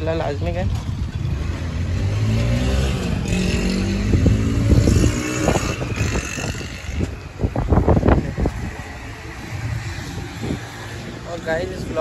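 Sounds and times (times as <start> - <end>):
vehicle engine revving: 0.9 - 11.3.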